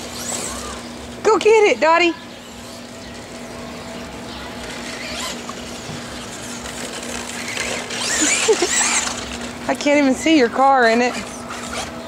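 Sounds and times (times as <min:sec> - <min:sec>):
electric toy truck motor whining: 0:00.0 - 0:10.2, 0:10.8 - 0:12.0.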